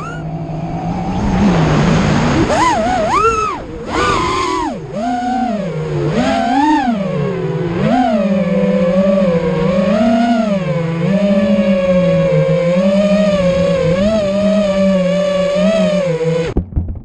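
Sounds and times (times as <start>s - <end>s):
drone motors whining: 0.0s - 16.6s.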